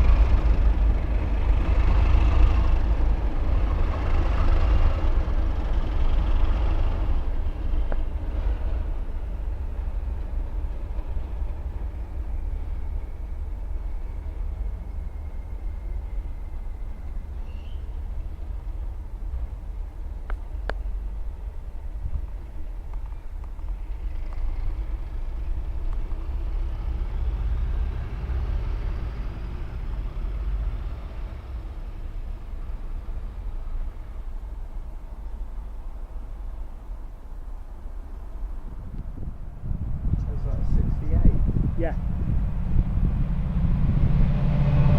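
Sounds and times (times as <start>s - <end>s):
train rumble: 0.0s - 44.9s.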